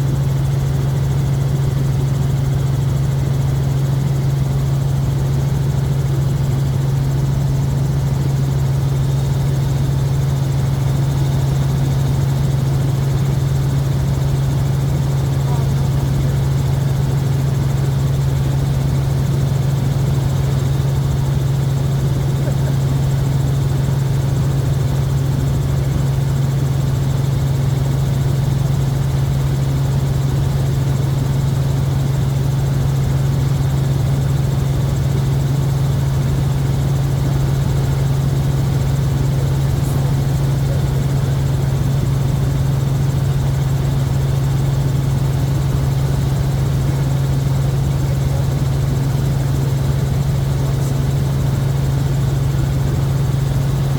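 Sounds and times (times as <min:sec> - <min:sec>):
helicopter rotor and turbine drone: 0:00.0 - 0:53.9.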